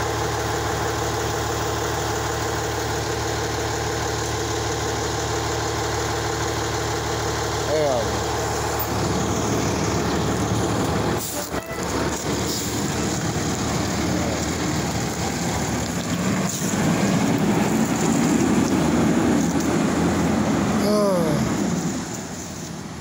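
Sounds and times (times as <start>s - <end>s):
fire engine rumbling: 0.0s - 23.0s.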